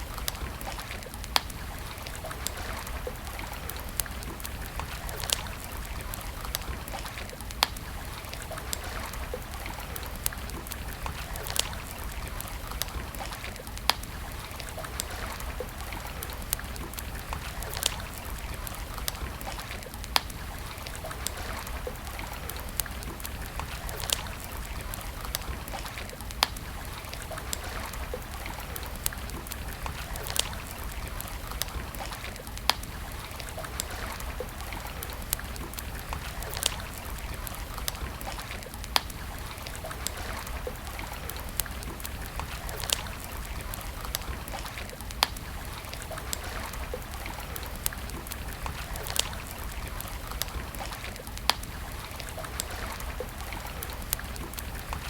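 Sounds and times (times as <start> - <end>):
campfire crackling and popping: 0.0 - 55.0
stream water flowing: 0.0 - 55.0.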